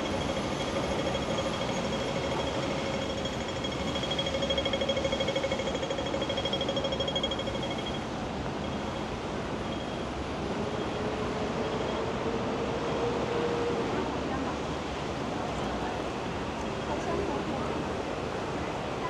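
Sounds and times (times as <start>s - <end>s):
train rumbling with whine: 0.0s - 19.0s.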